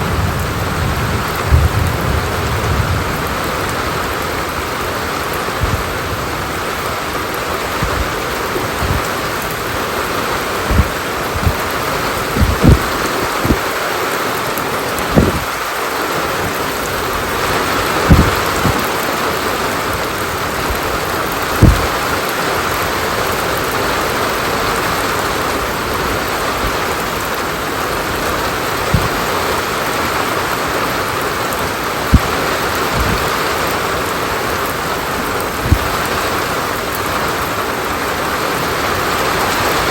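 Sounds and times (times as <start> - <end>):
heavy rain hiss: 0.0 - 39.9
large raindrops knocking: 0.0 - 39.9.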